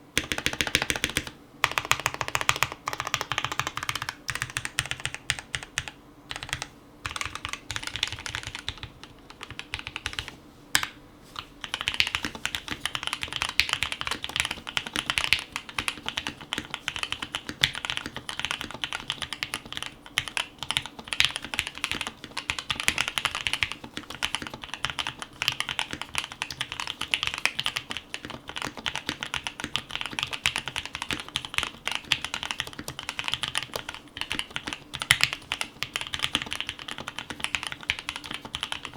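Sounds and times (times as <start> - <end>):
fast typing on mechanical keyboard: 0.2 - 10.9, 11.6 - 38.9.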